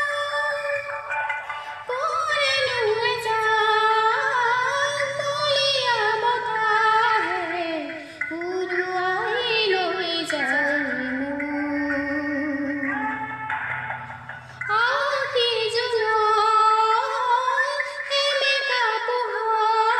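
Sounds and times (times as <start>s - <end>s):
woman singing: 0.0s - 1.2s, 1.8s - 13.5s, 14.6s - 19.9s
instrumental backing: 0.0s - 19.9s.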